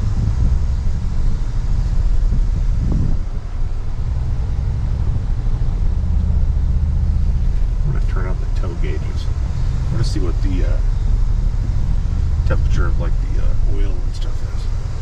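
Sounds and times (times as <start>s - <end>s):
pickup engine rumbling under load: 0.0s - 15.0s.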